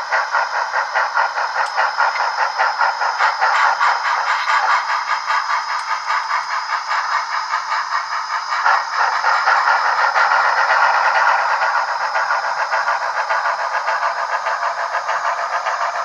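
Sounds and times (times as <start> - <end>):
model train steam chuffing: 0.0 - 16.0.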